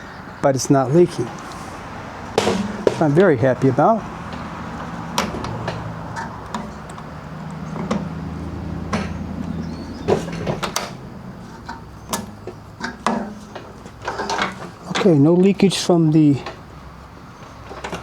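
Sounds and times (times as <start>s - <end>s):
steady low hum: 0.0s - 15.7s
handling clicks and knocks: 2.3s - 16.7s, 17.4s - 18.0s.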